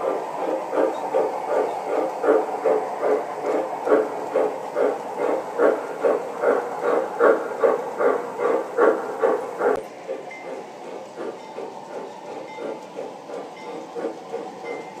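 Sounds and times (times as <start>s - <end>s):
electronic steam chuffing: 0.0s - 15.0s.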